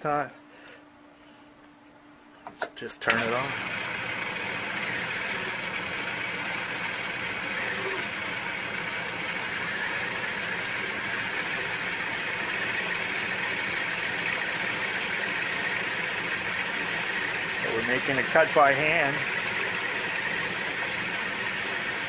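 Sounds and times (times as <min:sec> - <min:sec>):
bench lathe running: 0:03.1 - 0:22.0.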